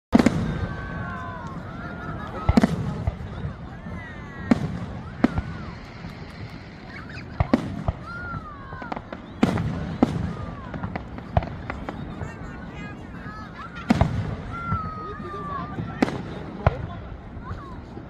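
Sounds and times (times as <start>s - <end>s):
fireworks bursting bangs: 0.1s - 17.8s.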